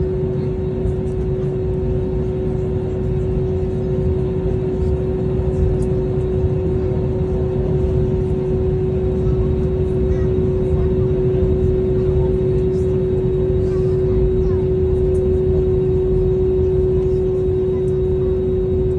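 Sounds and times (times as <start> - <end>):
jet engines humming at low power: 0.0 - 18.9.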